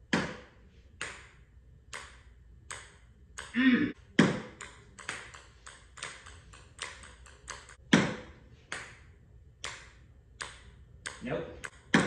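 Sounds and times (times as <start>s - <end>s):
ping-pong ball bouncing on concrete: 0.1s - 12.0s.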